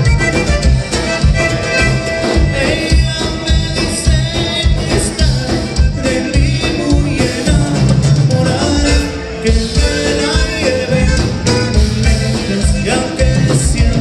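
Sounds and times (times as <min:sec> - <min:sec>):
accordion: 0:00.0 - 0:14.0
acoustic guitar: 0:00.0 - 0:14.0
bass: 0:00.0 - 0:14.0
drum kit steady beat: 0:00.0 - 0:14.0.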